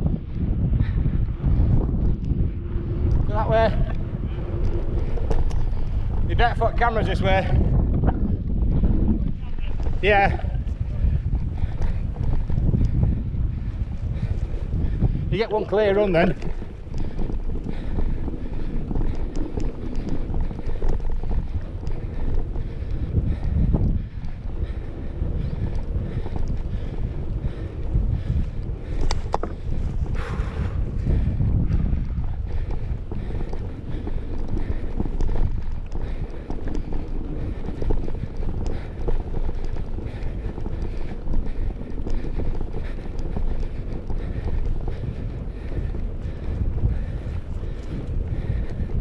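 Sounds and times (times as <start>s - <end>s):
bike clicks and rattles: 0.0s - 49.0s
wind buffeting microphone: 0.0s - 49.0s
tyre noise on dirt: 0.6s - 49.0s.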